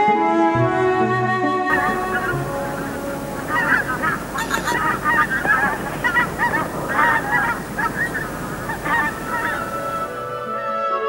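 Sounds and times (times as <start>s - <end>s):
geese honking: 1.7s - 10.7s.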